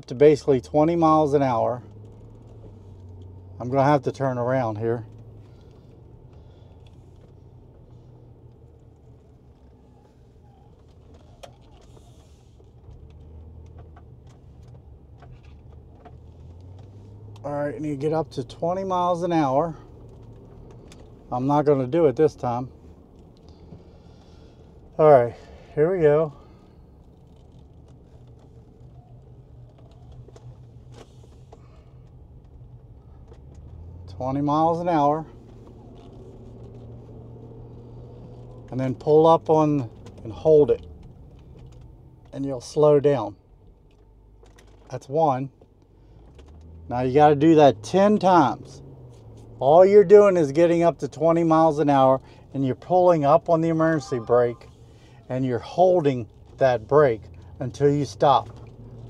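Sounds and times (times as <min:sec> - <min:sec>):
engine and road hum: 0:00.0 - 0:59.0.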